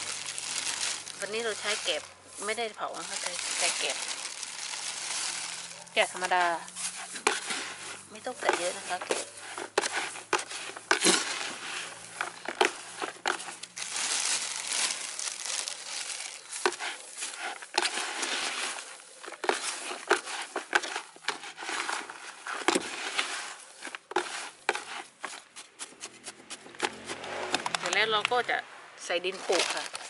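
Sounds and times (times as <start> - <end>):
husks rustling crackly: 0.0 - 28.1, 29.2 - 30.0
trowel scraping soil: 0.0 - 28.4, 29.1 - 30.0.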